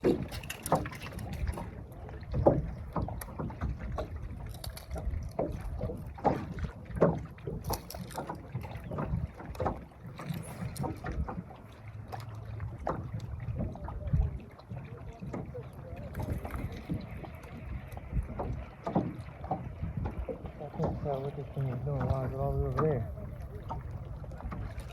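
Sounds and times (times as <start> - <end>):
water lapping against boat hull: 0.0 - 24.9.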